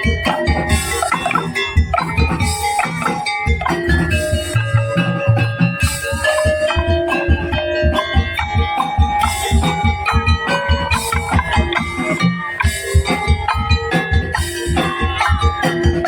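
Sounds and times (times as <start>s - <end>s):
bell-like percussion melody: 0.0s - 16.0s
fast drum beats: 0.0s - 16.0s.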